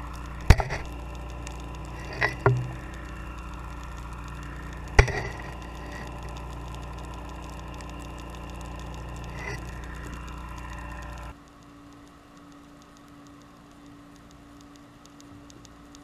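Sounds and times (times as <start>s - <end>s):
faint crackling clicks: 0.0s - 16.0s
underwater boat machinery hum: 0.0s - 16.0s.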